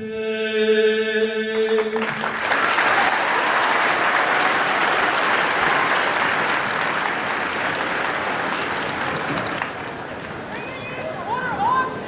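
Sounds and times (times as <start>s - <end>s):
crowd applauding and cheering: 1.6s - 11.6s.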